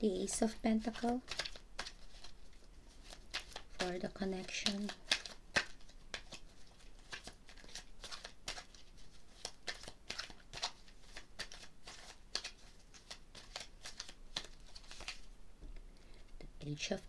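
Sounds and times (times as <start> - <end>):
cards being shuffled: 0.2 - 15.4.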